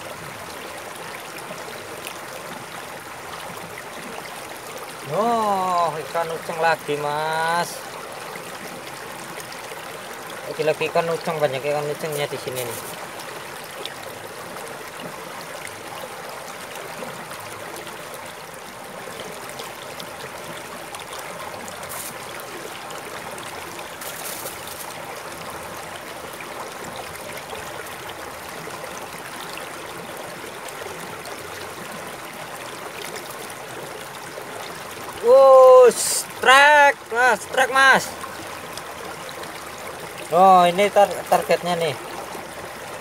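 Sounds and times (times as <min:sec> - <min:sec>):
stream trickling over stones: 0:00.0 - 0:43.0.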